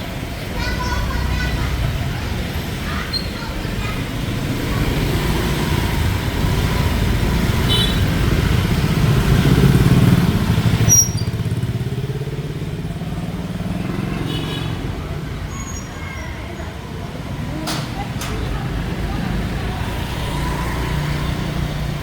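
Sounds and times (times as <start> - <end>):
motorbike and scooter engines: 0.0 - 22.0.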